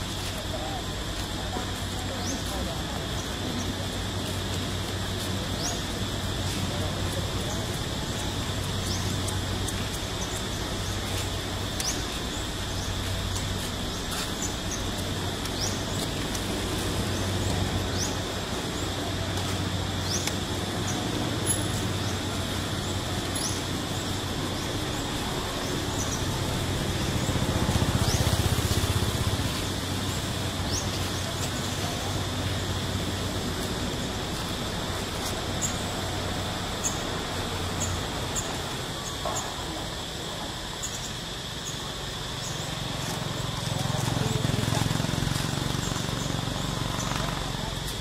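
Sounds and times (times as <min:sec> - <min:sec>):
high-pitched insect drone: 0:00.0 - 0:48.0.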